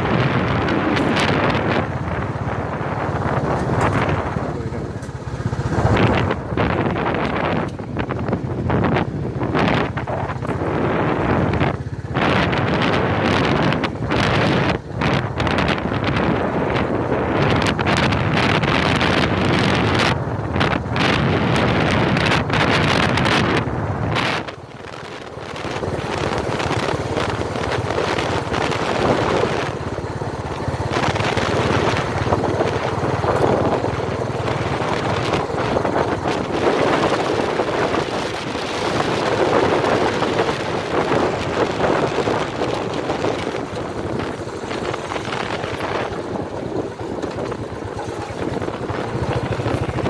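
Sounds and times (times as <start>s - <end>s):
vehicle engine and tyre rumble: 0.0s - 50.0s
wind buffeting microphone: 0.0s - 50.0s.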